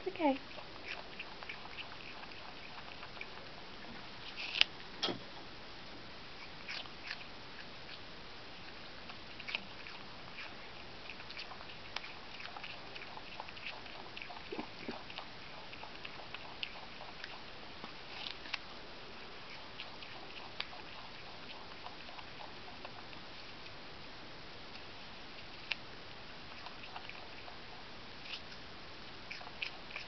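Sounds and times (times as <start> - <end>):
possum chewing fruit: 0.0 - 30.0.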